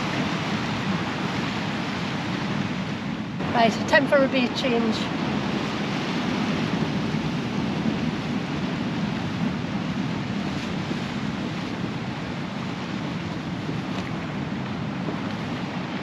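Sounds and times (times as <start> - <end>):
surf breaking on rocky shore: 0.0 - 16.0.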